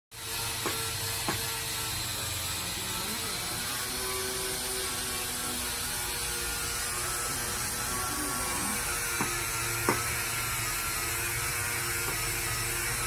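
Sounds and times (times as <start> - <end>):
machinery hum: 0.2 - 13.0.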